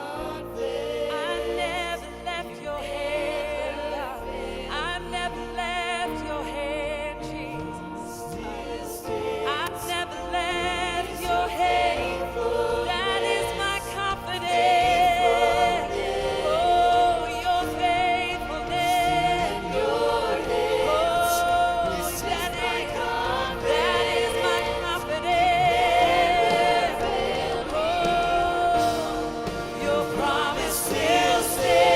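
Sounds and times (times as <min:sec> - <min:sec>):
voices singing slowly: 0:00.0 - 0:31.9.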